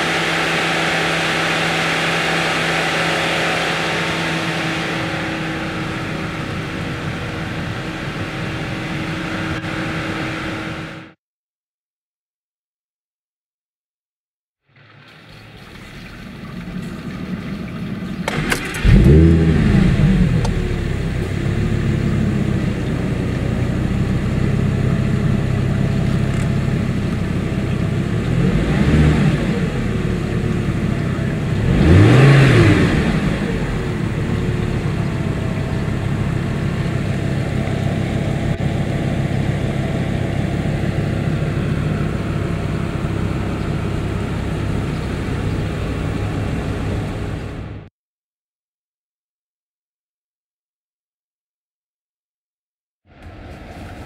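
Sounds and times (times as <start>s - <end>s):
car engine starting and revving: 0.0s - 11.2s, 15.1s - 47.9s.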